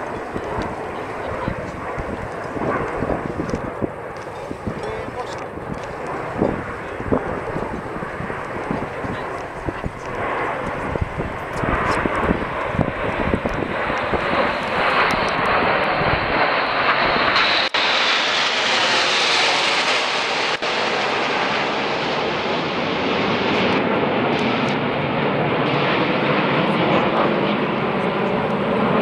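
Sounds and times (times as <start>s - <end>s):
jets flying past: 0.0s - 29.0s.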